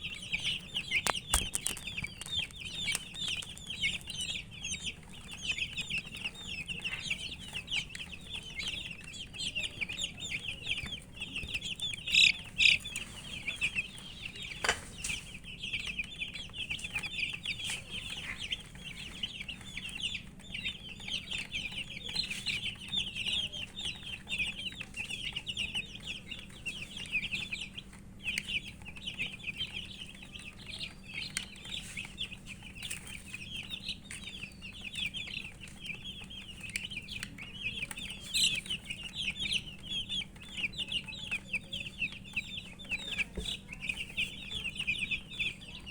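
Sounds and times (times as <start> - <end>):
baby chicks cheeping: 0.0 - 45.9.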